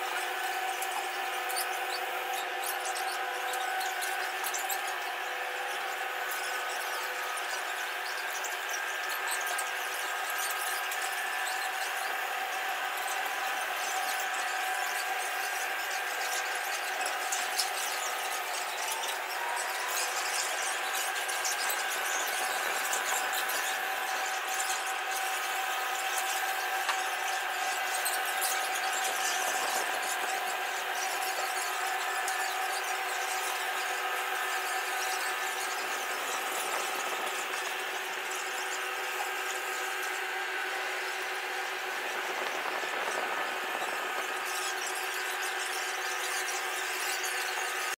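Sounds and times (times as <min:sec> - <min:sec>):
motor and gearing whine: 0:00.0 - 0:47.9.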